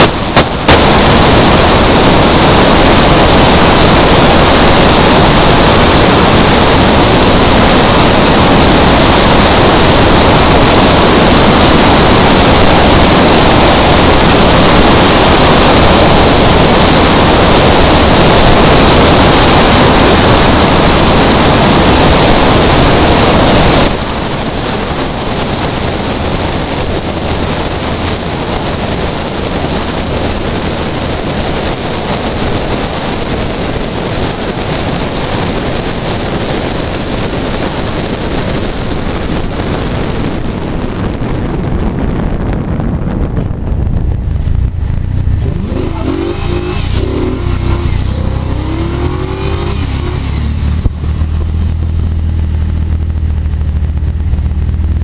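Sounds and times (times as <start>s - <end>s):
car engine running: 0.0s - 34.4s, 42.7s - 55.0s
wind rushing over microphone: 0.0s - 55.0s.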